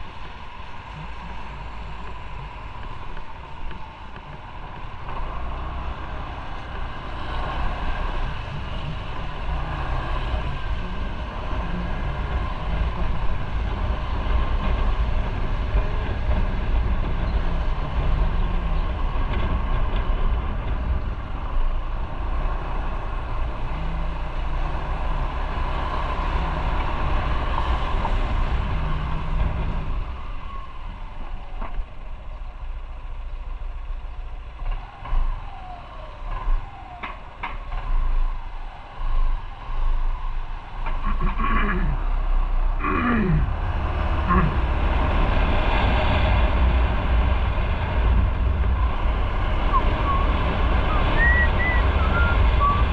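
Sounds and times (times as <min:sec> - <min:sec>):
wind rumble on microphone: 0:00.0 - 0:52.9.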